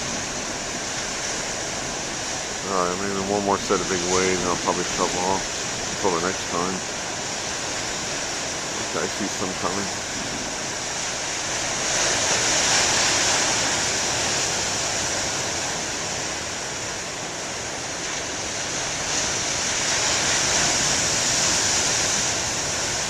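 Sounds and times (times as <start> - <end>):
waves breaking on beach: 0.0 - 23.0.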